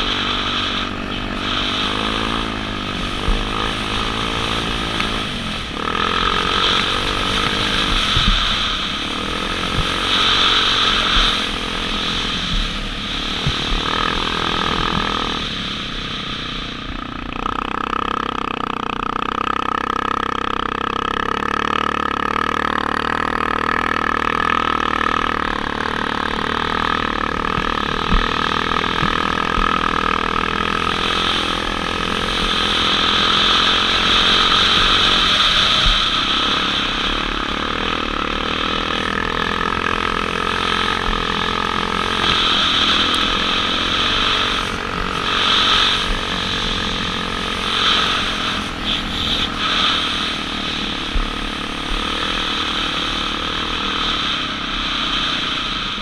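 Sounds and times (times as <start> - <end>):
motocross bike engine: 0.0 - 56.0.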